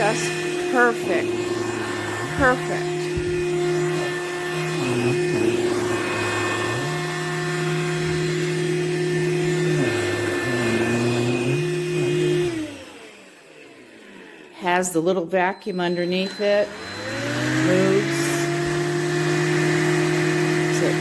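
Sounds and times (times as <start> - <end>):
handheld vacuum motor hum: 0.0 - 21.0.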